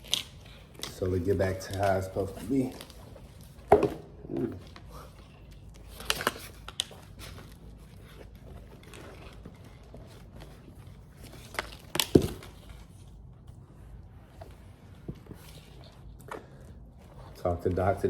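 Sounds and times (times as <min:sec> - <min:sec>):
faint room noise: 0:00.0 - 0:18.0.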